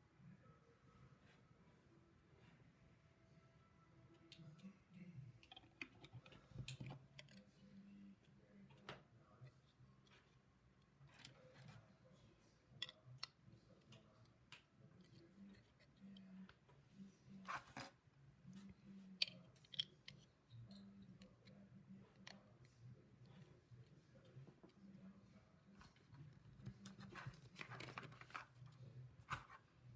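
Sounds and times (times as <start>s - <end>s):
faint low hum: 0.0s - 29.9s.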